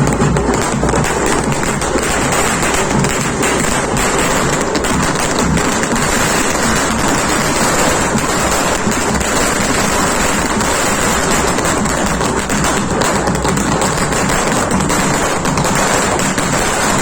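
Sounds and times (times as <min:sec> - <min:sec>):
firecrackers crackling: 0:00.0 - 0:17.0.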